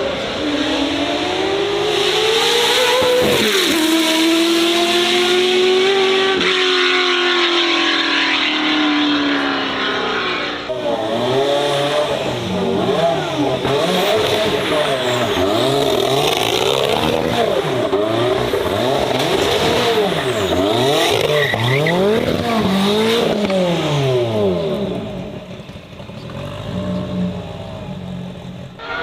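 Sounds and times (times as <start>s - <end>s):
lower engine revving unevenly: 0.0s - 29.0s
racing car engine revving: 0.0s - 29.0s.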